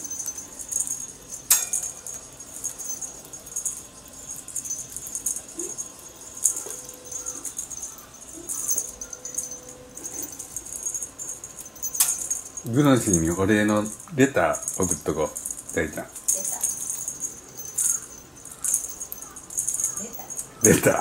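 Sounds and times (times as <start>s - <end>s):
small bells jingling: 0.0s - 21.0s.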